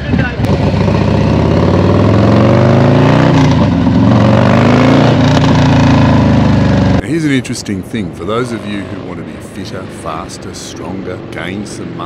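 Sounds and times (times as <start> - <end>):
motorcycle engine revving: 0.0 - 7.0, 8.2 - 12.0.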